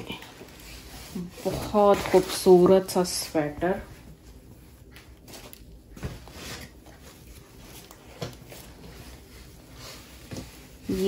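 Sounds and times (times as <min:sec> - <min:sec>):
sweater rustling: 0:00.0 - 0:11.0.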